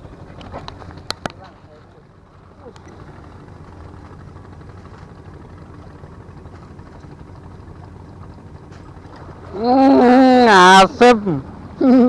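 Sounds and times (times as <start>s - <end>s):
distant boat engine humming: 0.0s - 12.0s.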